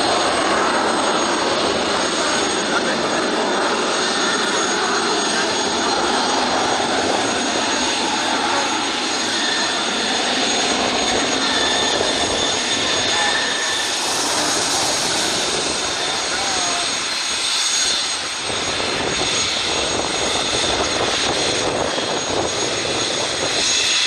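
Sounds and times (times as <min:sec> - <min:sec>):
high constant jet whine: 0:00.0 - 0:24.0
jet engines at takeoff: 0:00.0 - 0:24.0.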